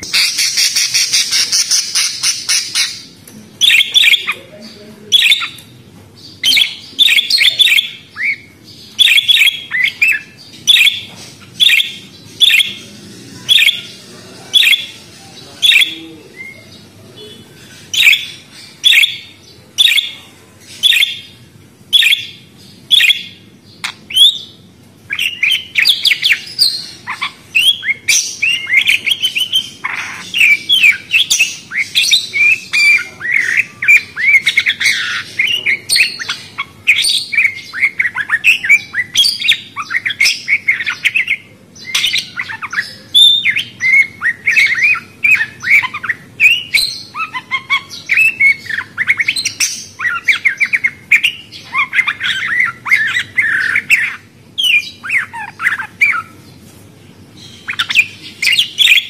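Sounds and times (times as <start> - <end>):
parrots chirping and warbling: 0.0 - 59.0.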